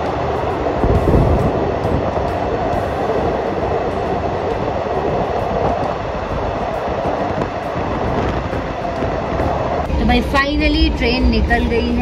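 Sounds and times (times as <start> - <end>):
train rumbling through a tunnel: 0.0 - 12.0.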